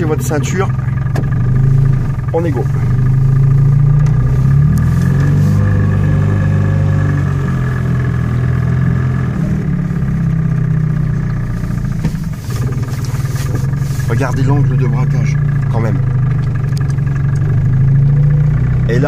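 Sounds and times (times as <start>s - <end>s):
car engine droning: 0.0s - 19.0s.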